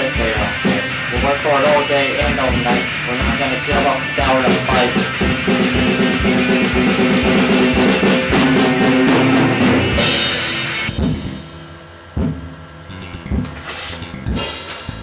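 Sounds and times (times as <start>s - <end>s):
rap backing beat with drums: 0.0s - 9.3s, 12.2s - 15.0s
ringing cymbal crash: 0.4s - 12.6s, 13.6s - 15.0s.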